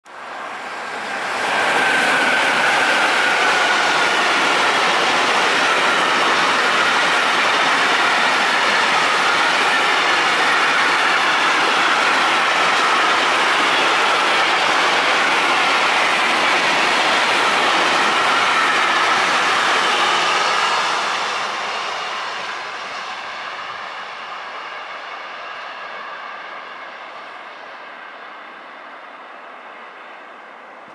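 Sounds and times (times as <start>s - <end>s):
freight train rushing past: 0.1s - 30.9s.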